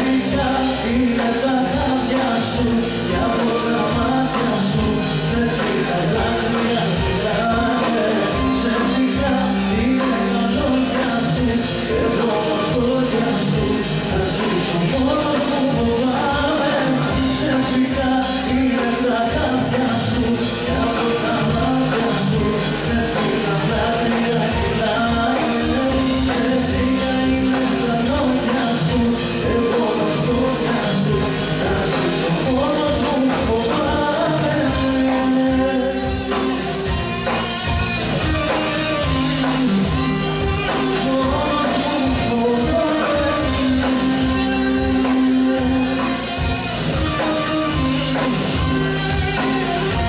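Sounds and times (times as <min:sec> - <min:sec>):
live band playing pop song: 0:00.0 - 0:50.0
man singing: 0:00.0 - 0:50.0.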